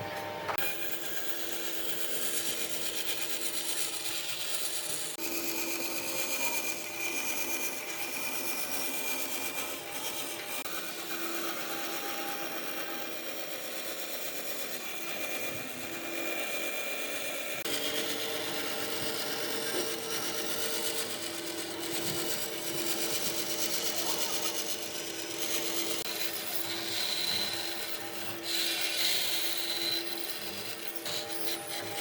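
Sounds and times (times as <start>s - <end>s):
power tool motor hum: 0.0s - 32.0s
rasping on wood: 0.6s - 32.0s.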